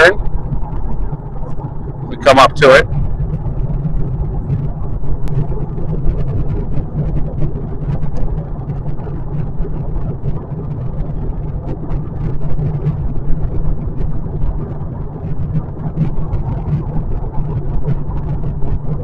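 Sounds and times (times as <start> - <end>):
car drive hum: 0.0 - 19.0
road and tyre rumble: 0.0 - 19.0.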